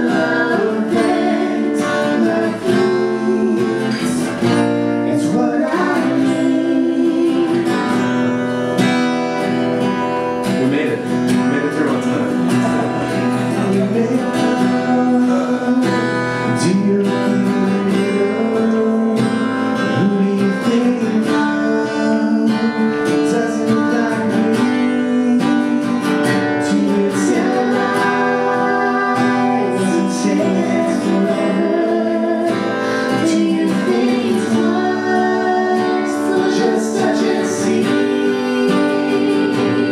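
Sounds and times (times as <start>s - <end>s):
man and woman singing: 0.0s - 8.9s, 10.7s - 39.9s
strummed acoustic guitar: 0.0s - 39.9s.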